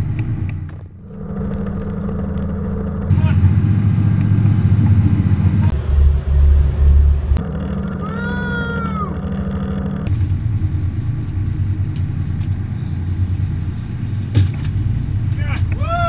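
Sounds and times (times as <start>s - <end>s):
boat engines droning: 0.0s - 16.0s.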